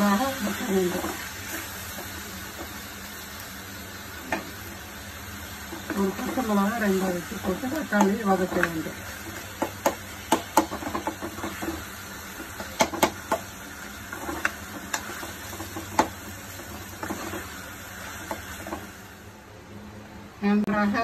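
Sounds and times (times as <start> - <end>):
onions and tomatoes sizzling: 0.0 - 19.6.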